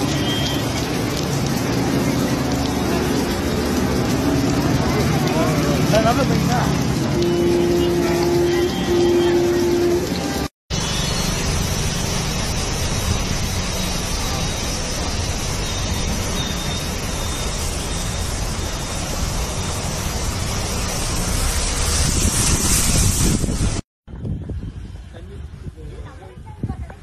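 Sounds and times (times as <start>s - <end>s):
car driving through floodwater: 0.0s - 22.0s
water washing against vehicle: 0.0s - 24.9s.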